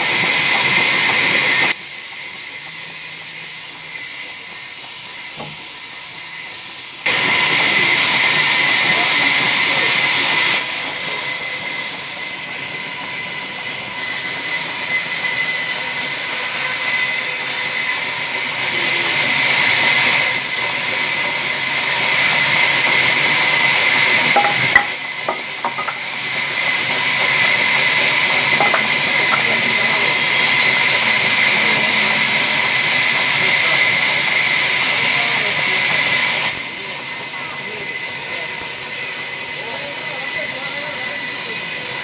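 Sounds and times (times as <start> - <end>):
band saw whining: 0.0 - 42.0.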